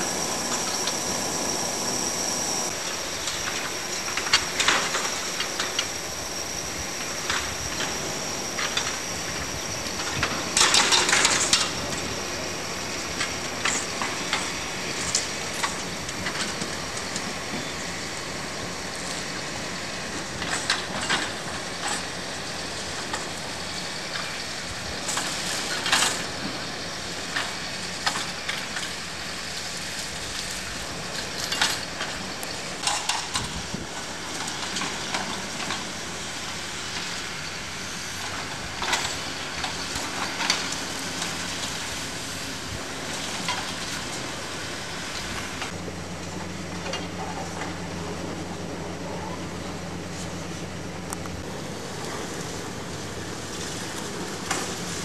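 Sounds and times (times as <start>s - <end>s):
demolition machinery running: 0.0s - 55.0s.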